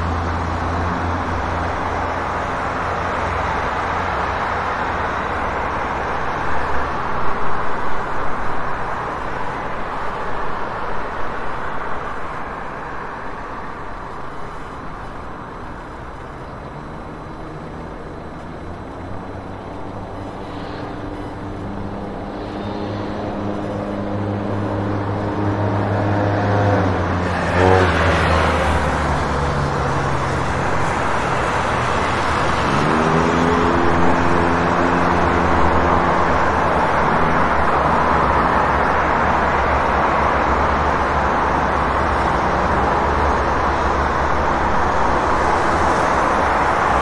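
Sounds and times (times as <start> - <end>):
car engines running: 0.0 - 47.0
vehicles passing: 0.0 - 47.0.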